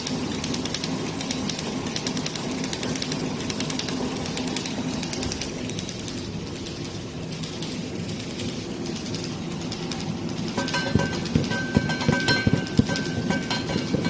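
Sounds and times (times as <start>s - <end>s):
packaging machine humming: 0.0s - 14.0s
rapid machine clicking and clatter: 0.0s - 14.0s.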